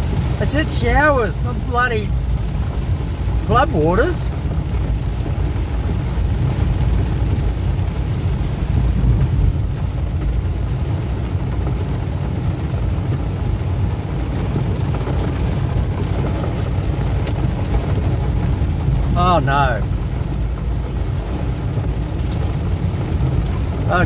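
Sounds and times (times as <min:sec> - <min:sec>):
heavy rain on car roof: 0:00.0 - 0:24.0
low road rumble: 0:00.0 - 0:24.0.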